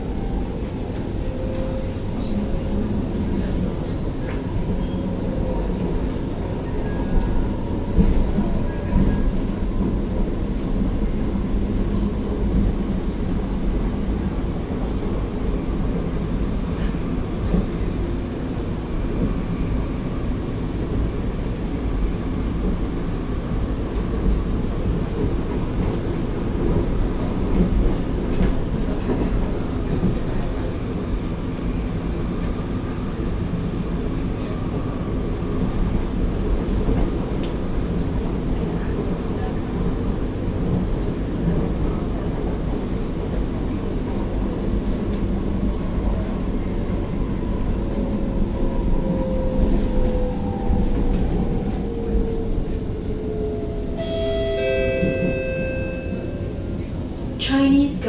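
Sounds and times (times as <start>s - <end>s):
metro train rumble: 0.0s - 58.0s.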